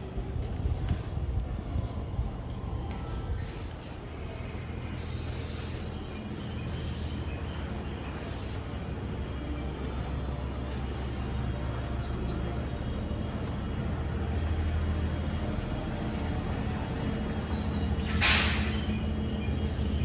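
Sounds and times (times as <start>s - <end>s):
locomotive engine humming: 0.0s - 20.0s.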